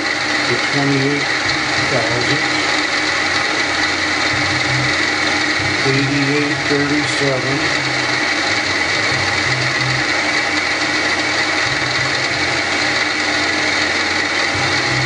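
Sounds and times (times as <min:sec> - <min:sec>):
milling machine whining: 0:00.0 - 0:15.0.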